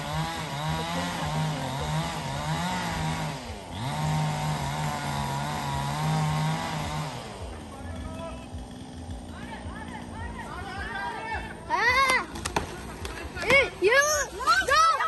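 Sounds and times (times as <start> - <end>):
chainsaw cutting at high revs: 0.0 - 15.0.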